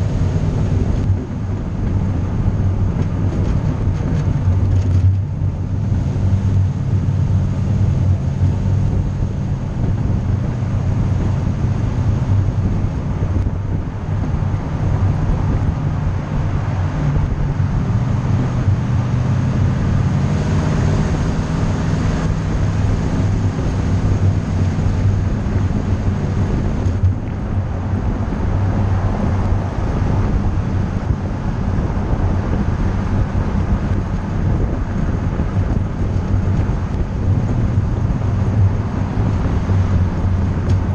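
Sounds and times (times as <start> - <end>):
road noise: 0.0 - 40.9
vehicle engine running at speed: 0.0 - 40.9
wind noise: 0.0 - 40.9.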